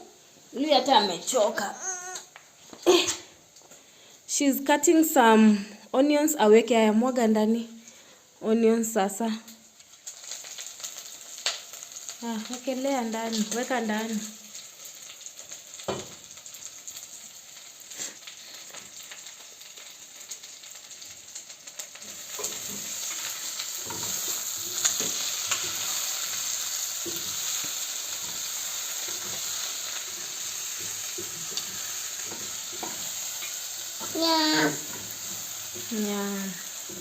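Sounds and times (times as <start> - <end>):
onions sizzling in a pan: 0.0 - 37.0.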